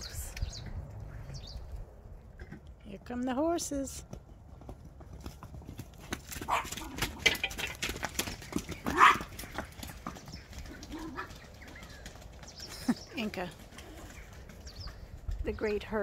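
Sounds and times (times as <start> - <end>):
horse hoofbeats on muddy ground: 2.9 - 16.0.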